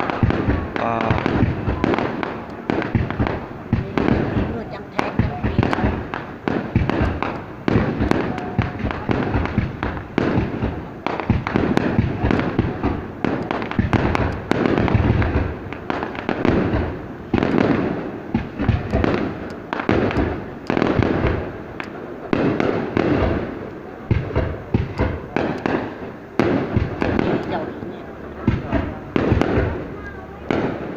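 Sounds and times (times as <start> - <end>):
aerial fireworks bursting: 0.0 - 30.9.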